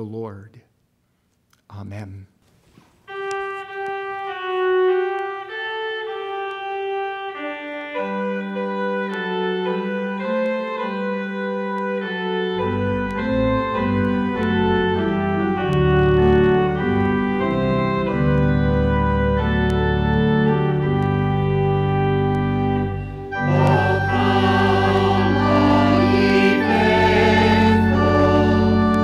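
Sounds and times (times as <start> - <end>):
organ music: 3.0 - 29.0.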